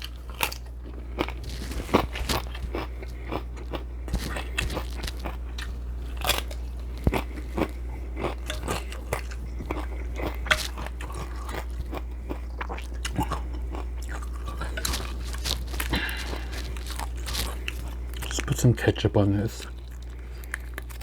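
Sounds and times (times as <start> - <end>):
crisp bites and crunching: 0.0 - 21.0
steady low hum: 0.0 - 21.0.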